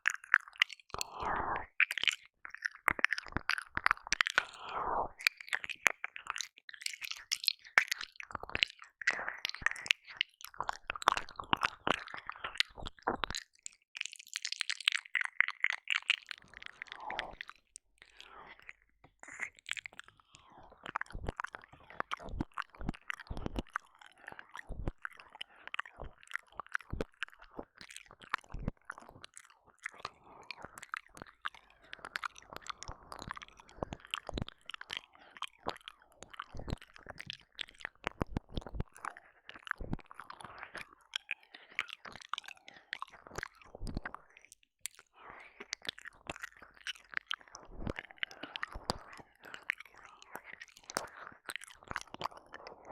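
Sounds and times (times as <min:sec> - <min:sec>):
wet mouth licking and smacking: 0:00.0 - 0:52.9.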